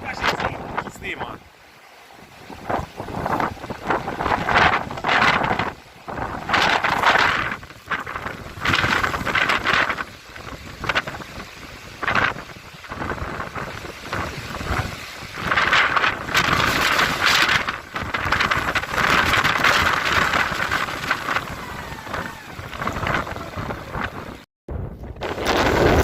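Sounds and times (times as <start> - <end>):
wind gusts buffeting microphone: 0.0 - 26.0.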